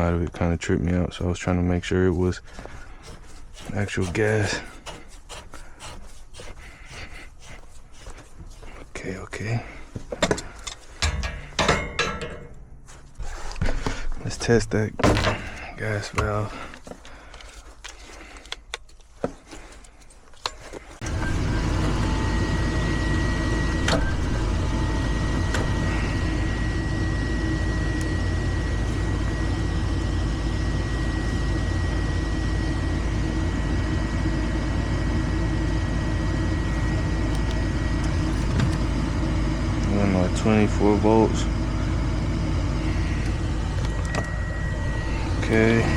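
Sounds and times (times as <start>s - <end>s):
furnace motor humming and whining: 0.0s - 12.6s, 13.2s - 45.9s.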